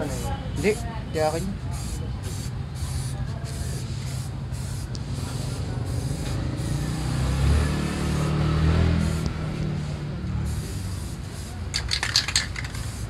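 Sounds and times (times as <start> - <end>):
spray paint can hissing: 1.6 - 13.0.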